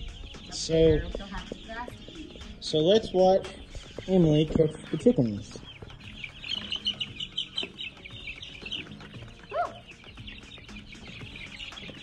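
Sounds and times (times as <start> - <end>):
young chickens cheeping: 0.0 - 12.0.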